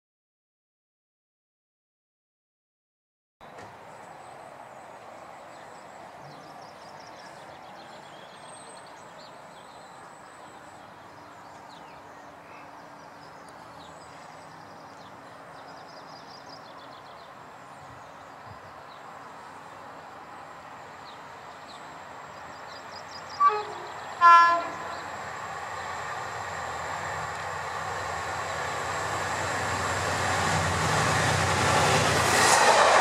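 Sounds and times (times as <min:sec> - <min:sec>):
distant traffic hum: 0:03.4 - 0:33.0.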